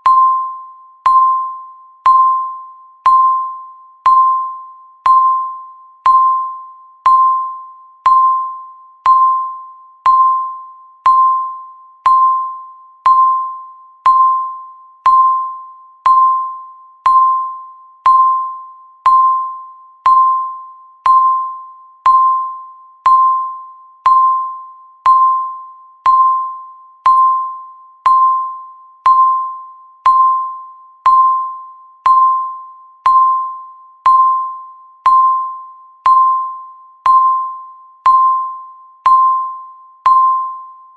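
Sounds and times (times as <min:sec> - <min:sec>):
countdown timer ticking tones: 0:00.0 - 0:40.8.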